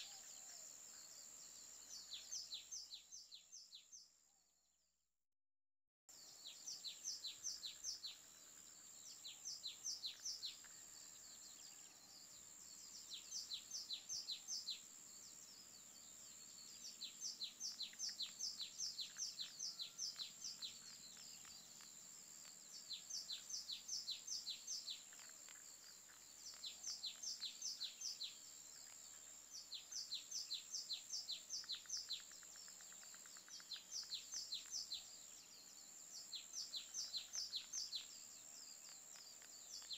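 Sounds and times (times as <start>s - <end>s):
steady high-pitched hiss: 0.0s - 4.0s, 6.1s - 39.9s
bird chirping: 0.0s - 4.3s, 6.1s - 39.9s.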